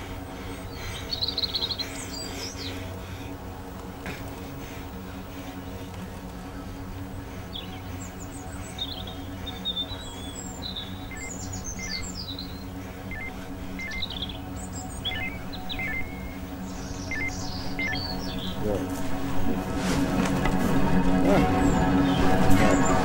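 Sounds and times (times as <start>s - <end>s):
birds chirping and trilling: 0.0s - 23.0s
low music drone: 0.0s - 23.0s.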